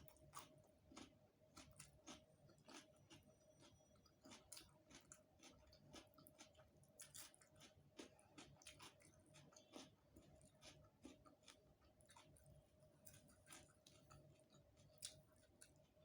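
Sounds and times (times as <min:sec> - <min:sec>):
chewing mouth clicks and smacks: 0:00.0 - 0:16.0
faint steady hum: 0:00.0 - 0:16.0.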